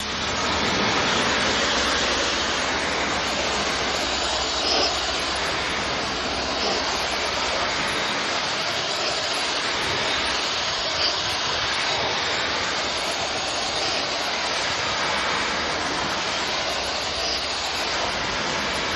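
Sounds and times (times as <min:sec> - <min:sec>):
pressurised water spray hissing: 0:00.0 - 0:18.9.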